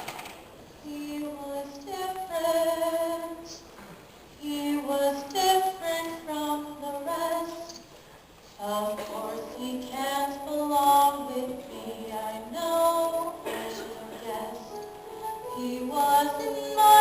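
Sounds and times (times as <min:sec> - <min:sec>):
woman singing slow melody: 0:00.8 - 0:03.6, 0:04.4 - 0:07.8, 0:08.6 - 0:17.0.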